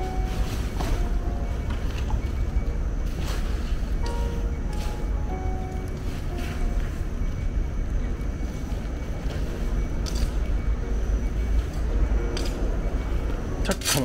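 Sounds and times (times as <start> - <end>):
low outdoor rumble: 0.0 - 13.9.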